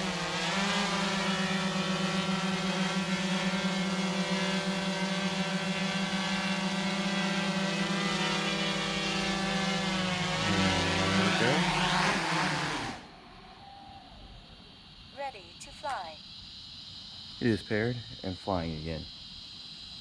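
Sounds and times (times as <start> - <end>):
quadcopter propellers whining: 0.0 - 16.2, 17.4 - 19.0.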